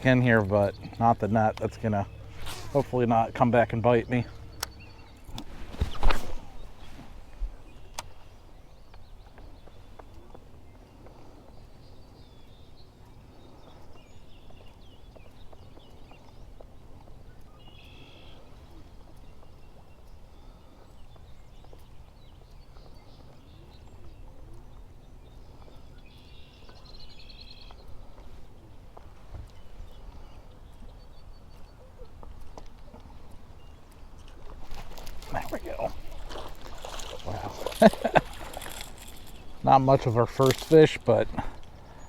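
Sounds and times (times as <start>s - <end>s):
small birds chirping and trilling: 0.0s - 42.0s.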